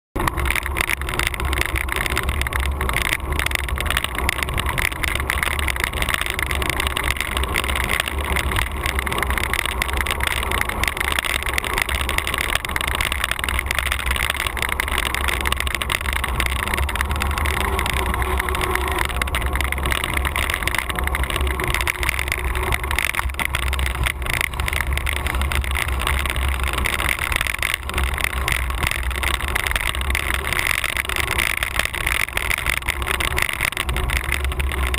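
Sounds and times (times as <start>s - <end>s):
deep road rumble: 0.2s - 34.9s.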